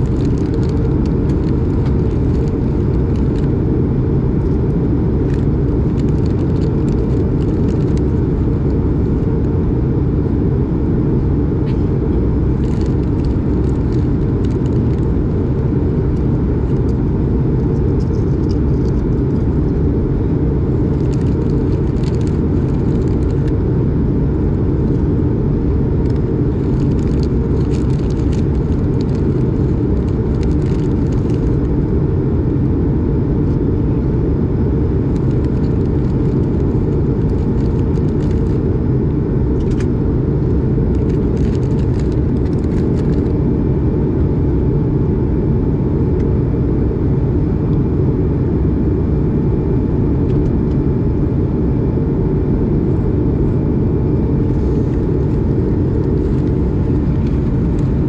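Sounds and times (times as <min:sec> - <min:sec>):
airplane cabin engine roar: 0:00.0 - 0:58.0
faint steady whine: 0:00.0 - 0:58.0.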